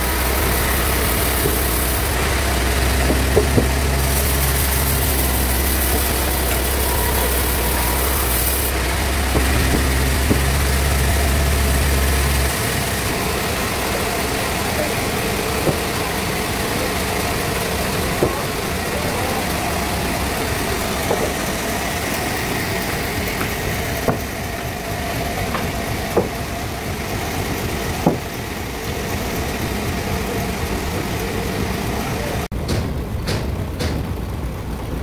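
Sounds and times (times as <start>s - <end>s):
band sawmill machinery running: 0.0s - 35.0s.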